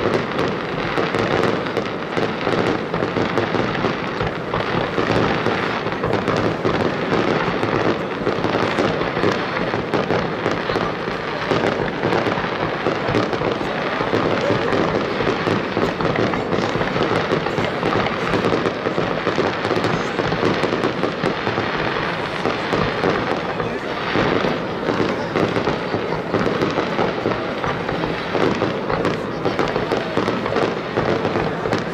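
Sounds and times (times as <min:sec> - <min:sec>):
fireworks bursting and crackling: 0:00.0 - 0:31.9.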